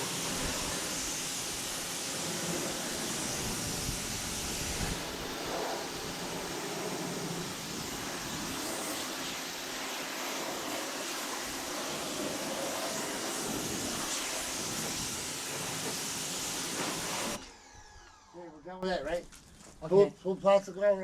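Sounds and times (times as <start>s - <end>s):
pressure washer spraying water: 0.0s - 17.4s.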